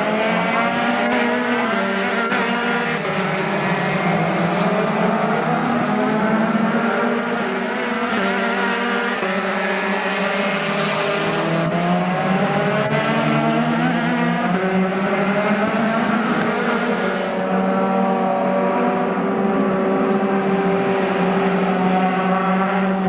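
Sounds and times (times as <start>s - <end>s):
race car engines accelerating: 0.0s - 23.0s.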